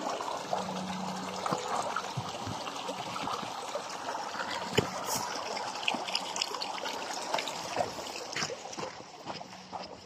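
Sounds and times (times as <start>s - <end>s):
stream trickling over rocks: 0.0s - 10.0s.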